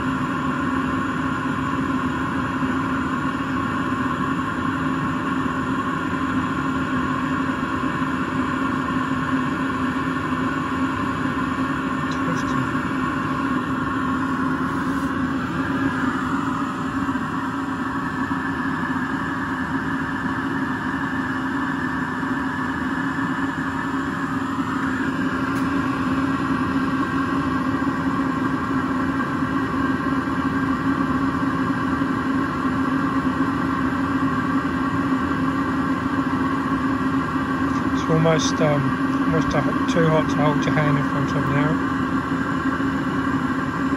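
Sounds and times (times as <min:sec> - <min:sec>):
burner combustion: 0:00.0 - 0:43.9
heater fan motor humming: 0:00.0 - 0:43.9.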